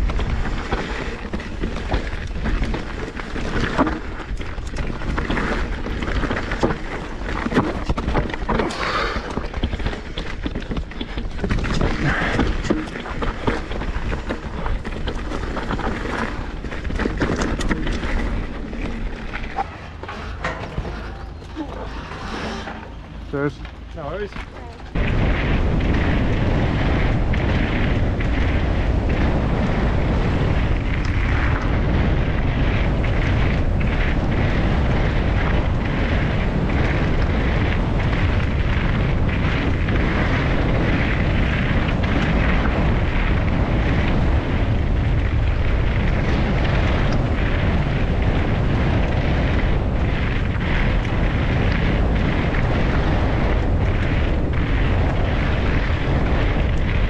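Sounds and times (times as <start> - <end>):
bike knocking and rattling: 0.0 - 57.0
bike tyres rolling on gravel: 0.0 - 57.0
wind roar: 0.0 - 57.0.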